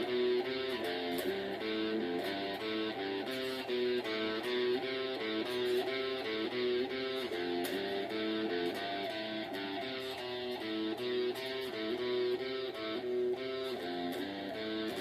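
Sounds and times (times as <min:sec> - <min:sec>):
guitar picking single notes: 0:00.0 - 0:15.0.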